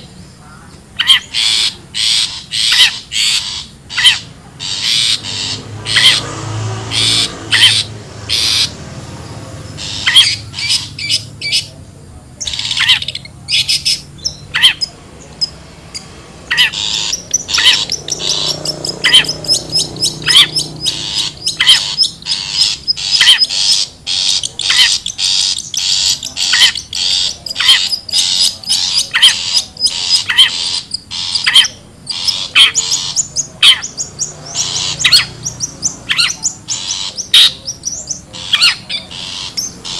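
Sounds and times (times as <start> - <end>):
bird giving harsh rasping calls: 0.0 - 39.9.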